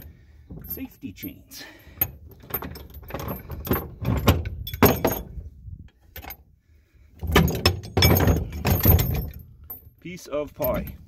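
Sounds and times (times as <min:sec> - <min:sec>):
steel chains rattling: 0:00.0 - 0:05.4, 0:07.2 - 0:11.0.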